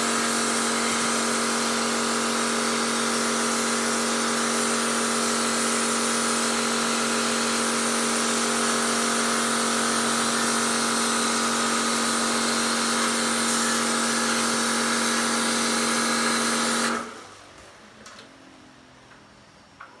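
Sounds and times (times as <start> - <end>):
pressure washer motor humming: 0.0 - 17.4.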